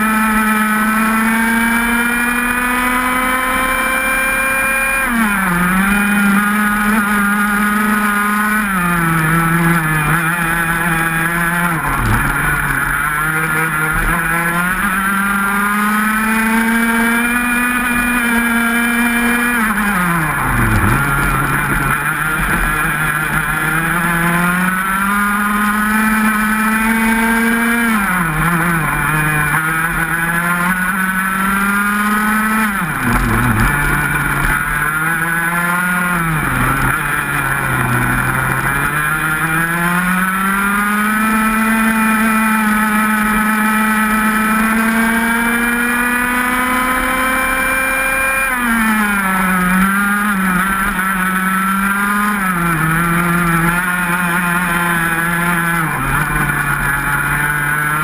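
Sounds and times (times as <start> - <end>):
racing kart engine revving: 0.0 - 58.0.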